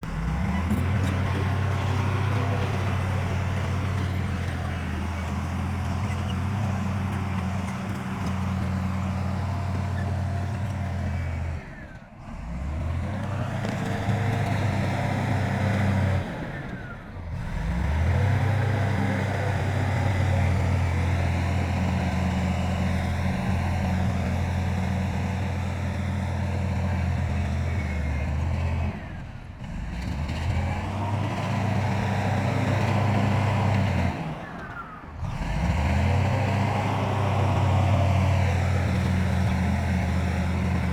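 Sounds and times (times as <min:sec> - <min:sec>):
heavy diesel machinery engines: 0:00.0 - 0:40.9.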